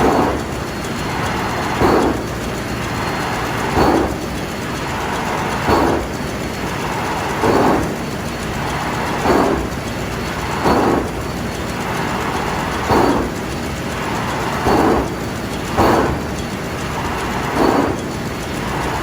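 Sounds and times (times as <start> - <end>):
engine room noise: 0.0 - 19.0.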